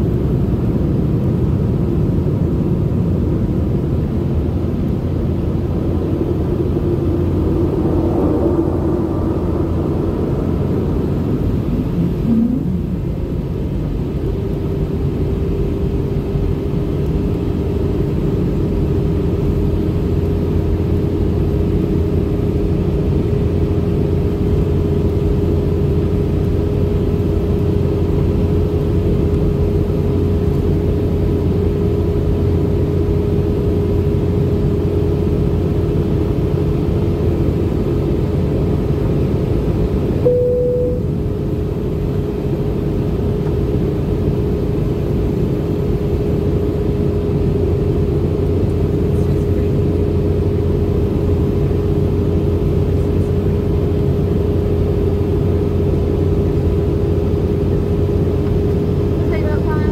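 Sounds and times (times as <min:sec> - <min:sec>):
airplane cabin rumble: 0:00.0 - 0:59.9
steady hum: 0:02.8 - 0:33.6, 0:40.0 - 0:59.9.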